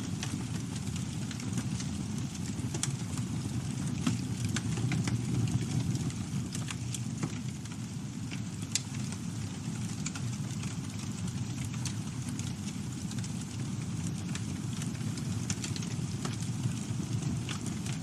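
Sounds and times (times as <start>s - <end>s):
burning wood crackling and popping: 0.0s - 18.0s
campfire flames rumbling: 0.0s - 18.0s.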